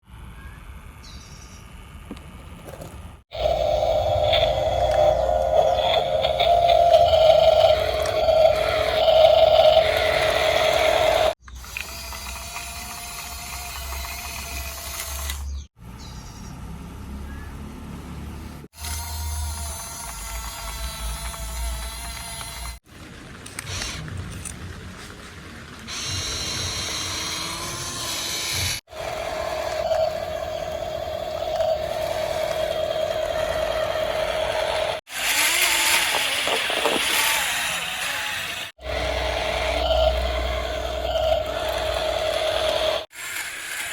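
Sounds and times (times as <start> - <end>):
toy electric motor whining: 2.7 - 15.8, 18.6 - 24.5, 25.9 - 43.9.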